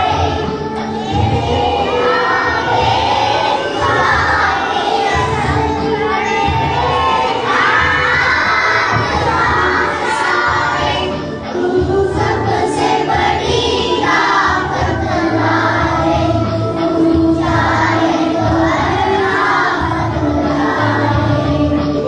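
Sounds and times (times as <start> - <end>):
girls singing in chorus: 0.0 - 22.0.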